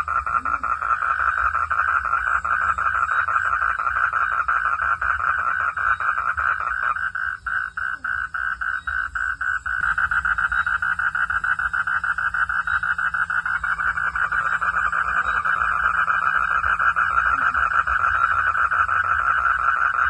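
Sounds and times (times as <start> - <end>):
frogs calling: 0.0 - 20.0.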